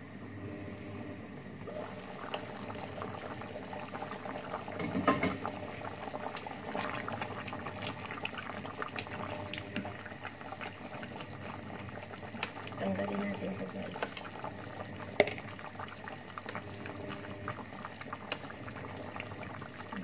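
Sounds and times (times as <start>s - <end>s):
stew bubbling in a pot: 1.4s - 20.0s.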